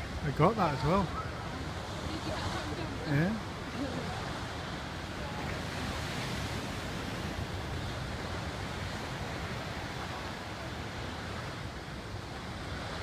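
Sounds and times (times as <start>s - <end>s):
sea waves rushing: 0.0s - 13.0s
wind rumbling on microphone: 0.0s - 13.0s.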